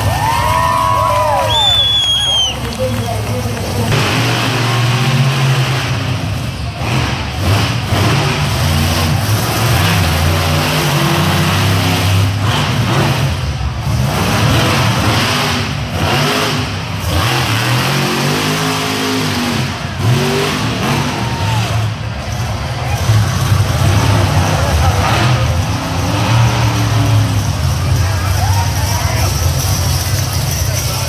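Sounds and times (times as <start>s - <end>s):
monster truck engines revving: 0.0s - 31.0s.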